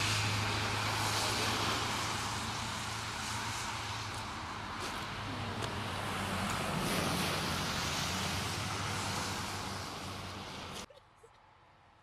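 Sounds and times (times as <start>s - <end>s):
tyre hiss from passing cars: 0.0s - 10.9s.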